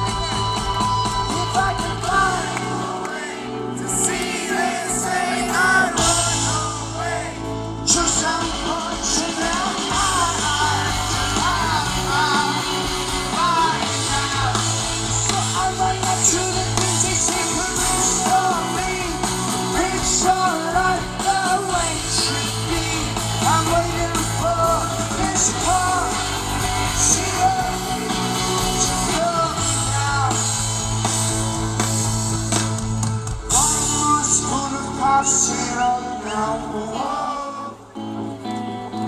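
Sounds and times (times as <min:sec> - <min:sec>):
person singing: 0:00.0 - 0:31.0, 0:33.5 - 0:39.0
bass line: 0:00.0 - 0:37.3
drums: 0:00.0 - 0:39.0
electric guitars: 0:00.0 - 0:39.0.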